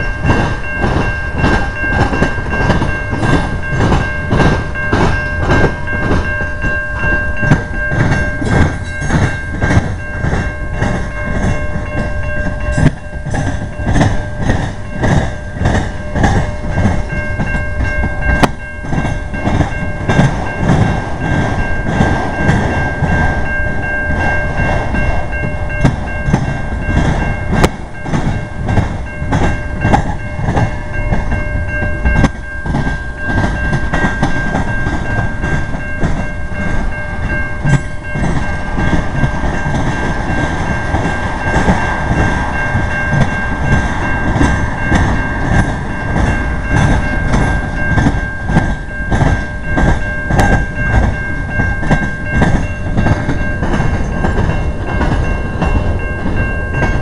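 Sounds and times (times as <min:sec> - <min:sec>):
train wheels clacking over rails: 0:00.0 - 0:57.0.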